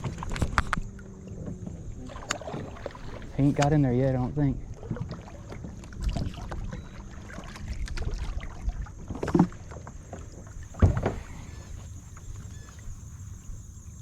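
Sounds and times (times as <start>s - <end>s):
kayak on water: 0.0s - 14.0s
wind rumbling on microphone: 0.0s - 14.0s.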